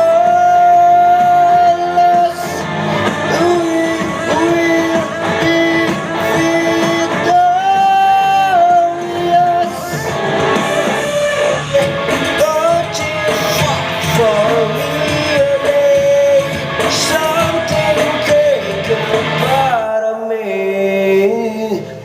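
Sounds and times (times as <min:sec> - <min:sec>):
rock band backing track: 0:00.0 - 0:20.1
person singing karaoke: 0:00.0 - 0:22.0.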